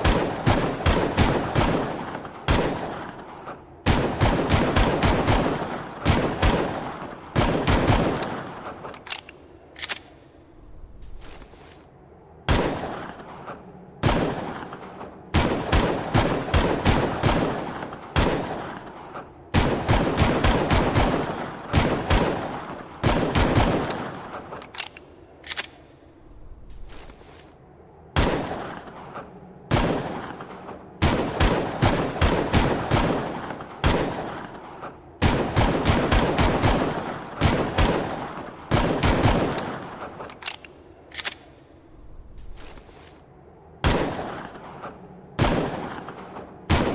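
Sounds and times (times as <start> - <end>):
pistol gunshots with echo: 0.0 - 11.5, 12.4 - 27.2, 28.1 - 42.9, 43.8 - 46.9.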